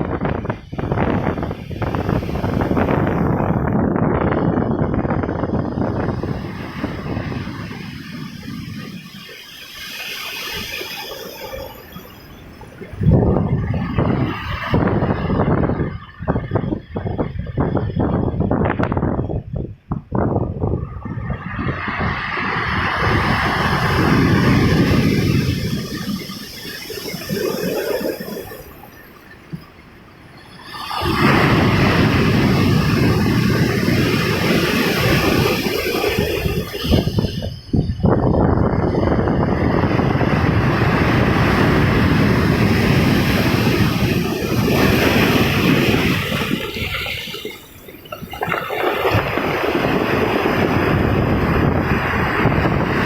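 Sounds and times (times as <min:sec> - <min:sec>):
ocean waves breaking on shore: 0:00.0 - 0:19.0, 0:20.0 - 0:53.0
wind rumbling on microphone: 0:00.0 - 0:53.0.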